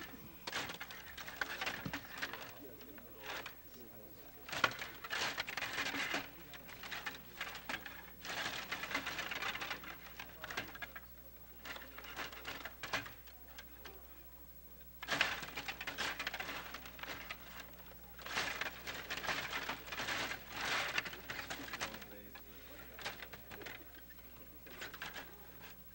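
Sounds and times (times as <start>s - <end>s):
table hockey rods clattering: 0.0s - 14.0s, 15.0s - 25.8s.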